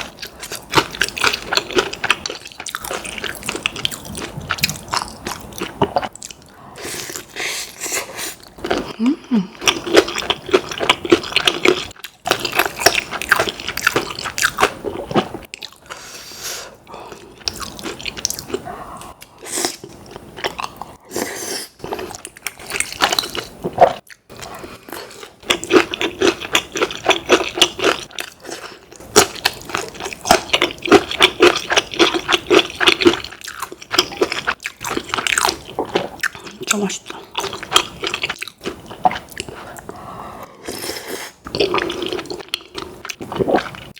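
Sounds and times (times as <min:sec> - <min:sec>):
crunching and chewing food: 0:00.0 - 0:07.8, 0:08.4 - 0:16.1, 0:16.9 - 0:43.9.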